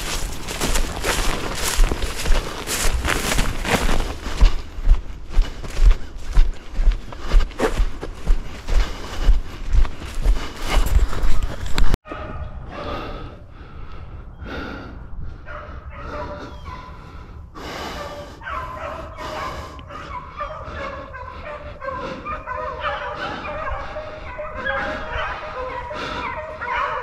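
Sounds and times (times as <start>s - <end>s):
hounds baying: 0.0s - 13.0s, 15.4s - 27.0s.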